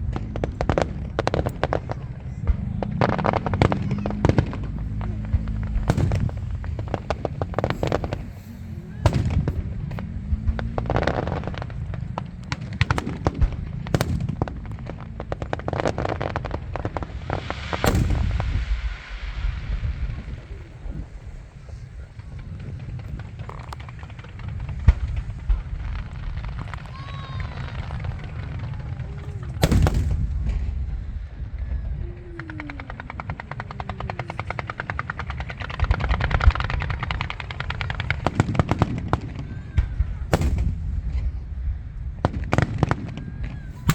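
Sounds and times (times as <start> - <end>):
low rumble: 0.0 - 43.0
fireworks bangs and crackling: 0.0 - 43.9.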